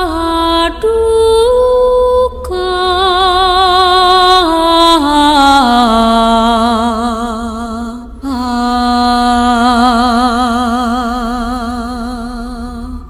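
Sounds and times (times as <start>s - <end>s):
person singing chant-like notes: 0.0s - 13.0s.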